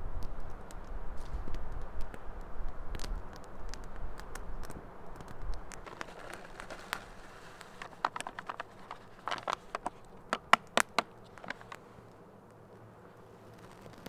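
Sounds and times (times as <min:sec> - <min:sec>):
campfire crackling: 0:00.0 - 0:14.0
fire pops: 0:00.0 - 0:14.0.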